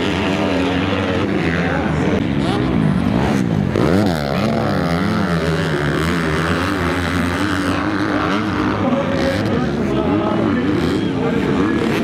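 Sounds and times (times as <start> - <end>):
dirt bike engines racing: 0.0 - 12.0.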